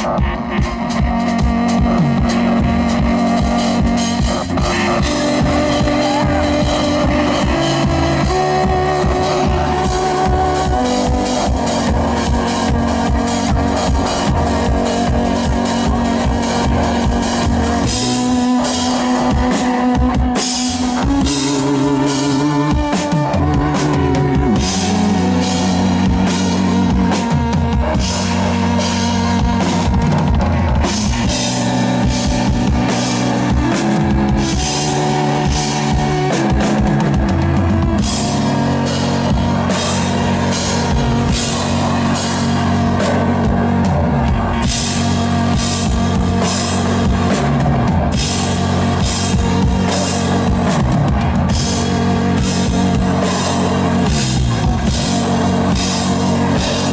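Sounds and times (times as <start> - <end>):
drum kit beat with cymbals: 0.0 - 56.9
low synthesizer line: 0.0 - 56.9.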